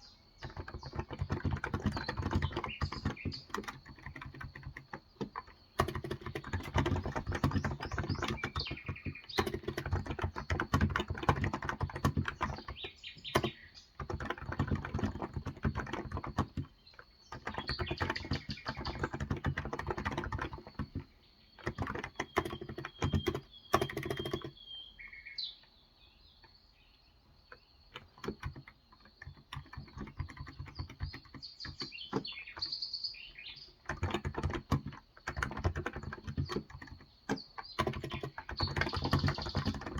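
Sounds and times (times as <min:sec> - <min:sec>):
typing on keyboard: 0:00.0 - 0:24.6, 0:27.5 - 0:39.9
birds chirping: 0:00.0 - 0:39.9.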